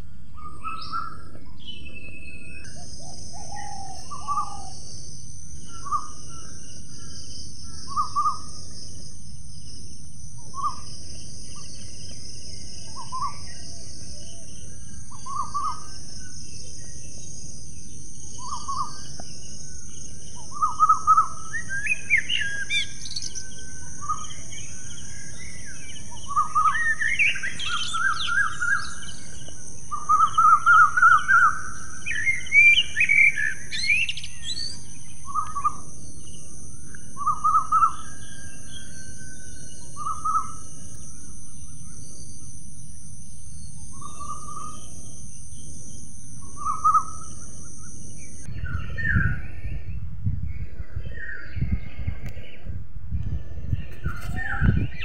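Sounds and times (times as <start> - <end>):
birds calling and chirping: 0.0 - 55.0.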